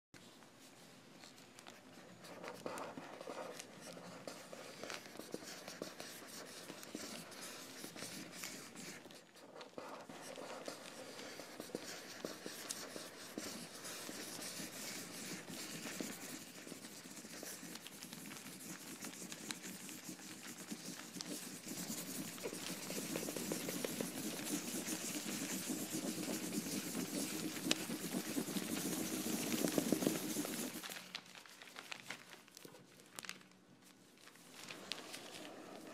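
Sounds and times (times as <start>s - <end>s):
pen scratching on paper: 1.9s - 30.8s, 34.8s - 35.9s.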